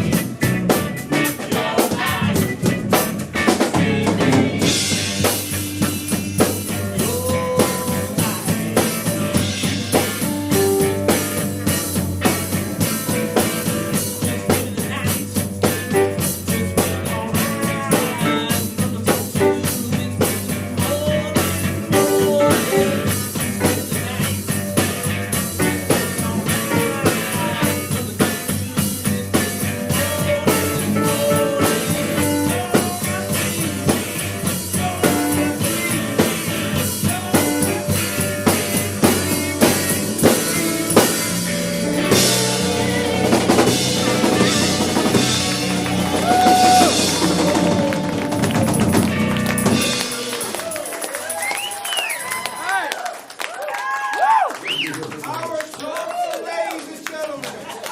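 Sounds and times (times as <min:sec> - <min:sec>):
live rock band playing: 0:00.0 - 0:52.6
drum kit with snare and rimshots: 0:00.0 - 0:52.7.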